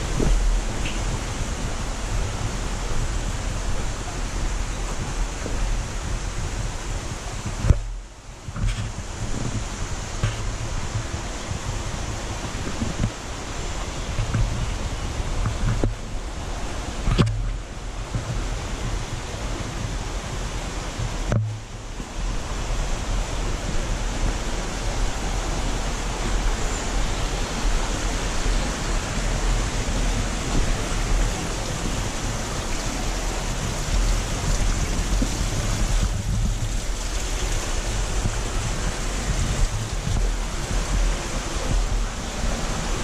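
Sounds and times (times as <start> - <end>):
water rushing: 0.0 - 43.0
wind rumbling on microphone: 0.0 - 43.0.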